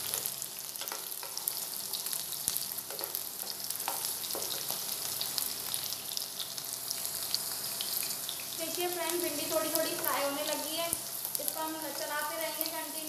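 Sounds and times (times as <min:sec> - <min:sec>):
okra sizzling in oil: 0:00.0 - 0:13.0.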